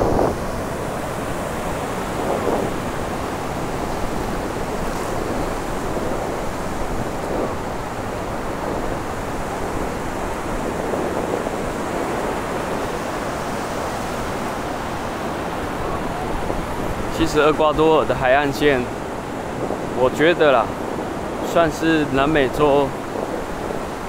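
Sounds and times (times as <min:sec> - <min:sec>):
ocean waves washing onto beach: 0:00.0 - 0:24.0.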